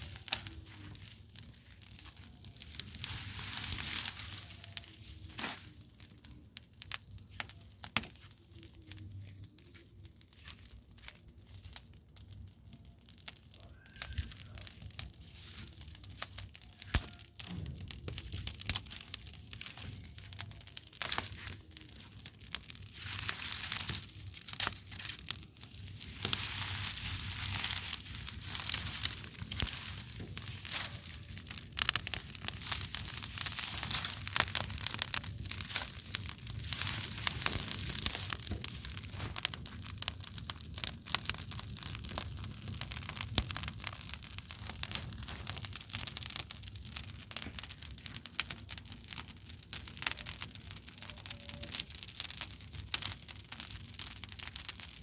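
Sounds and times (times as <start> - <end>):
bonfire crackling: 0.0 - 55.0.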